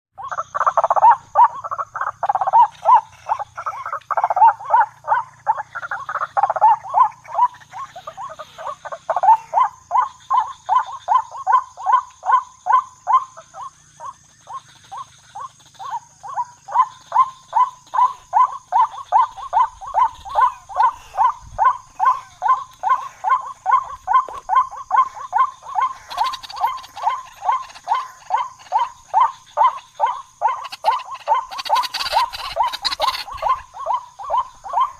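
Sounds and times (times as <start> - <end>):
waterhen calling: 0.2 - 34.9.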